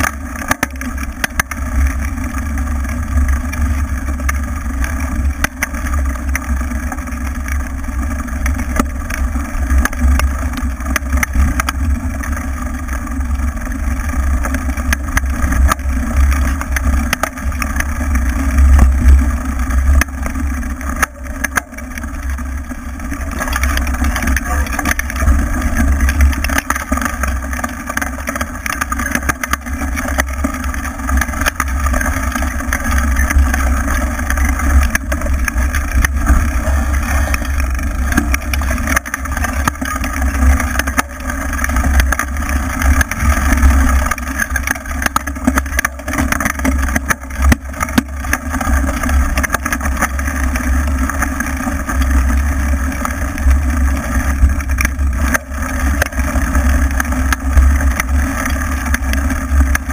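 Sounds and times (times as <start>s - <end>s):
bike clattering over bumps: 0.0s - 59.9s
tyres rolling over dirt: 0.0s - 59.9s.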